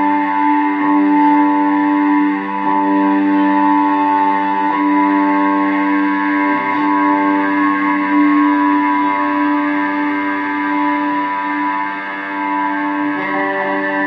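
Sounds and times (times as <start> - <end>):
electric guitar drone chord: 0.0 - 14.0.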